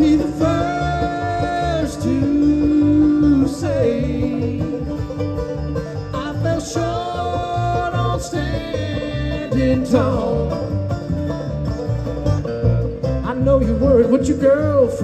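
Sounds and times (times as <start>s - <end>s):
bluegrass band playing: 0.0s - 15.0s.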